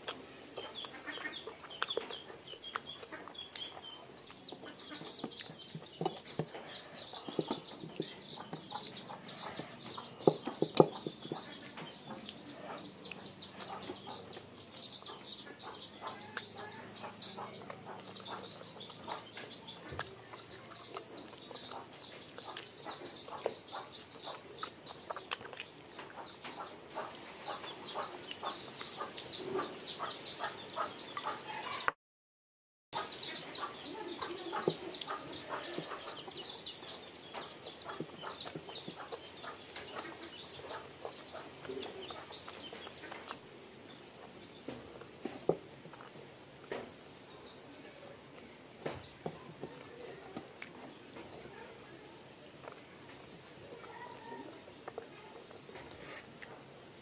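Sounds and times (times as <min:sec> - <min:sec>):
wet chewing and lip smacking: 0:00.0 - 0:30.5, 0:34.6 - 0:47.1, 0:48.4 - 0:56.7.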